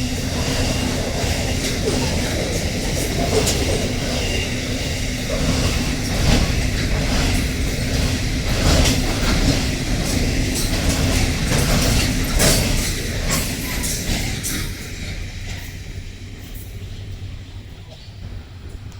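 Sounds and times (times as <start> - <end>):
freight train rumbling past: 0.0 - 18.9
wheels clacking on rail joints: 0.0 - 18.9.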